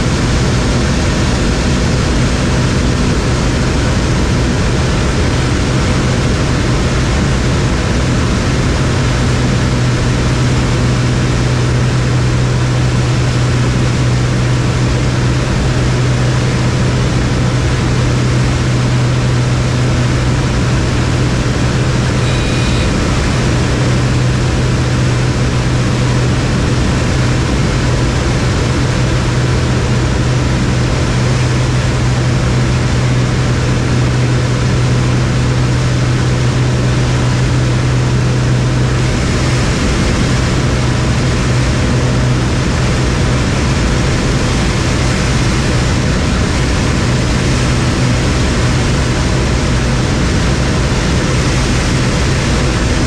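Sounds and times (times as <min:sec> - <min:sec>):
aircraft engine drone: 0:00.0 - 0:53.0.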